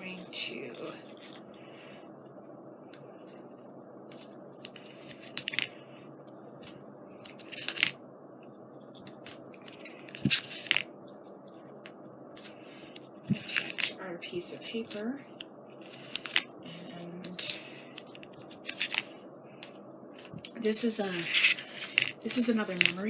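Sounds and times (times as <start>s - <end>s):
paper clicks and crinkles: 0.0s - 2.0s, 2.9s - 8.0s, 8.7s - 14.0s, 14.6s - 16.5s, 17.2s - 23.0s
steady low hum: 0.0s - 23.0s.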